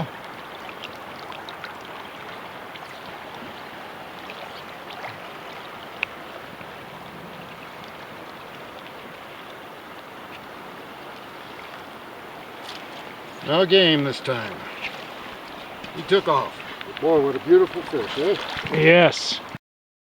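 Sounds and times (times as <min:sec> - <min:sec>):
river water rushing: 0:00.0 - 0:19.6.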